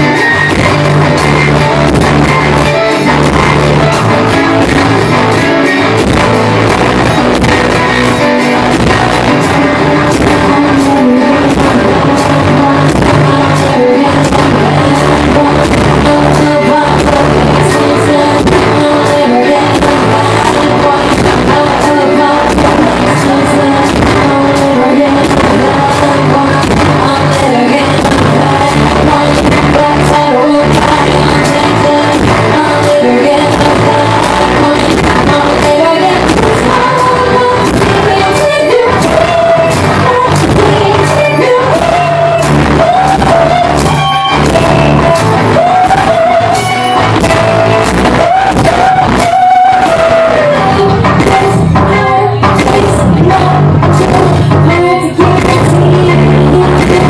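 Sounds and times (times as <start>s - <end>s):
guitar-bass hybrid: 0.0s - 57.0s
woman singing: 0.0s - 57.0s.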